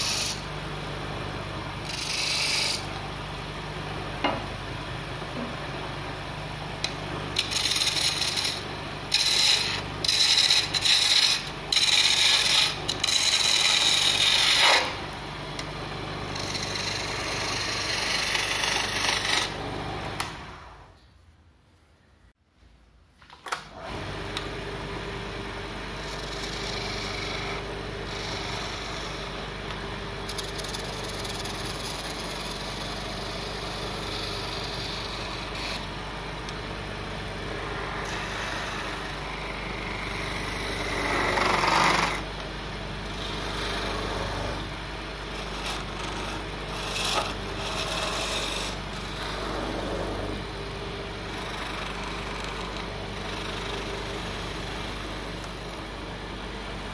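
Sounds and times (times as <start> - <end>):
chisel scraping spinning wood: 0.0 - 0.6, 1.7 - 3.3, 6.7 - 20.5, 25.8 - 42.4, 43.0 - 56.9
lathe motor humming: 0.0 - 20.4, 23.9 - 56.9.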